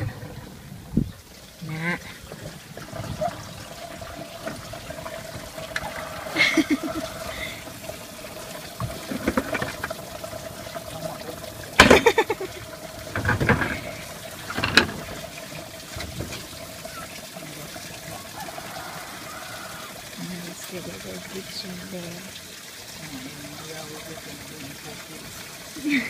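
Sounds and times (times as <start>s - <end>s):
washing machine draining water: 0.0s - 26.0s.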